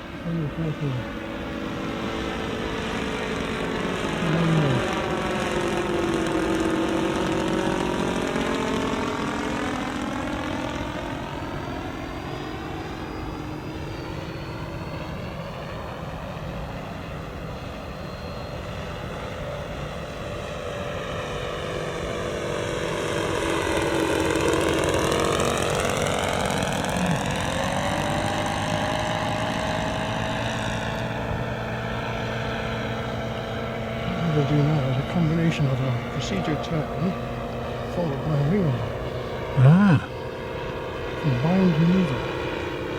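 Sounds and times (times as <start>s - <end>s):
model plane engines: 0.0s - 42.9s.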